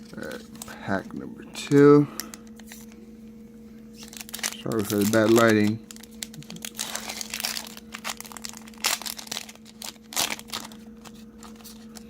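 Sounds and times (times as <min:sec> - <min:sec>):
foil wrapper crinkling: 0:00.0 - 0:03.0, 0:03.9 - 0:12.0.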